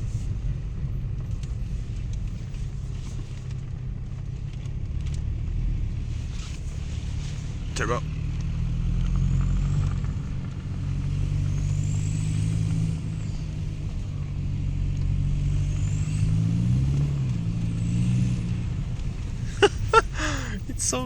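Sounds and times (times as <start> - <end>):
car engine pulling under boost: 0.0 - 21.0.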